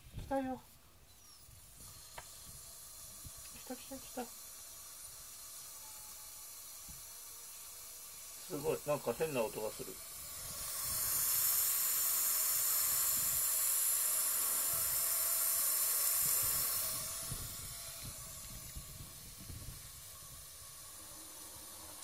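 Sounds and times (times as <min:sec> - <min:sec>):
steam inhaler hissing: 0:01.2 - 0:22.0.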